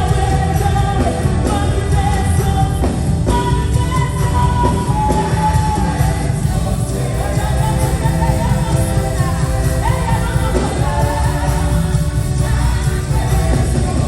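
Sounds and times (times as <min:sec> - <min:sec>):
gospel band with heavy bass: 0:00.0 - 0:14.0
person singing: 0:00.0 - 0:14.0.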